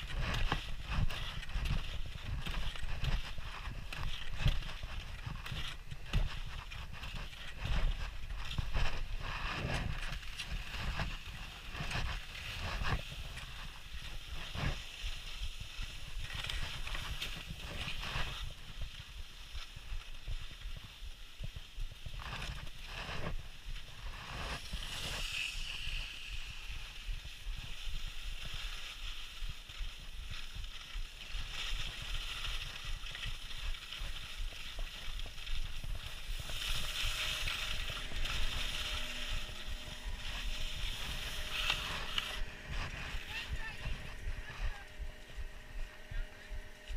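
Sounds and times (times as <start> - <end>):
ski edges scraping: 0.0 - 46.9
skis sliding over snow: 0.0 - 46.9.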